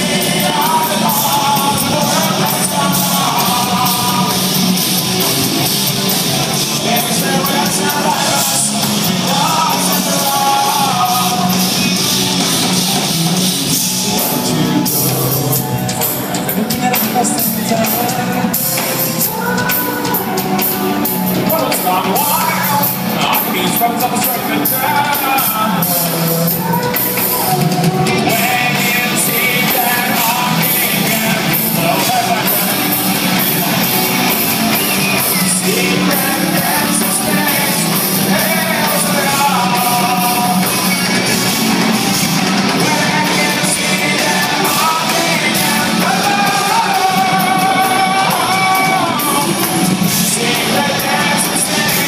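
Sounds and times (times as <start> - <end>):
live rock band playing: 0.0 - 52.0
person singing: 0.0 - 52.0.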